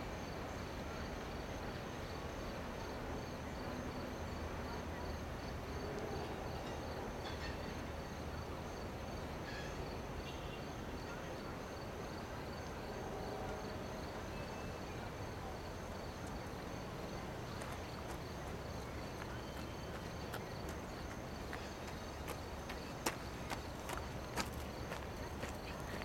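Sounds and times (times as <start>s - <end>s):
freight train rumbling: 0.0s - 26.0s
insects chirping in pulses: 0.0s - 26.0s.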